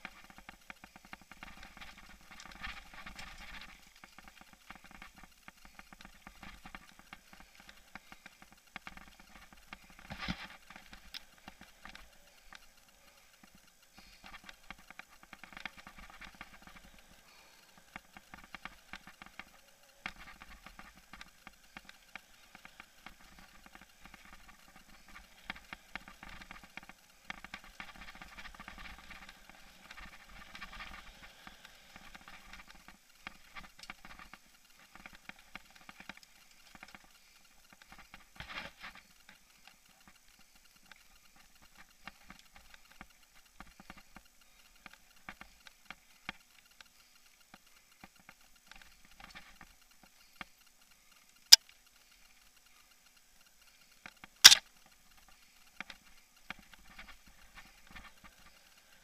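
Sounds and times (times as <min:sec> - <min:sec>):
steady rush of noise: 0:00.0 - 0:59.0.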